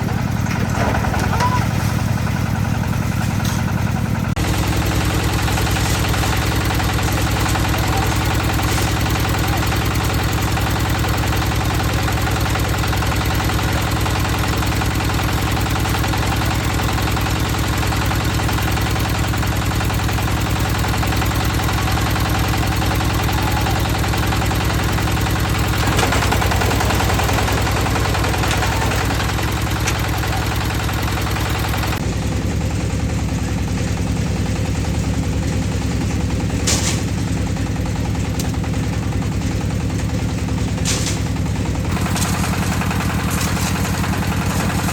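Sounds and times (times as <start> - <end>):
concrete mixer engine running: 0.0 - 44.9.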